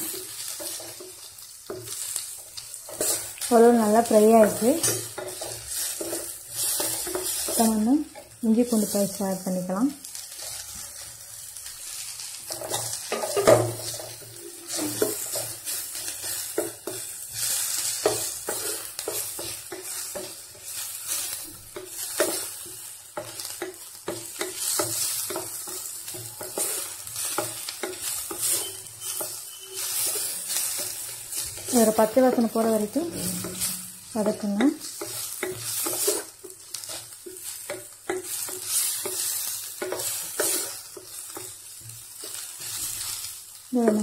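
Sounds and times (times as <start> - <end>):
spatula scraping pan: 0.0 - 9.2, 10.1 - 44.0
onions sizzling in oil: 0.0 - 44.0.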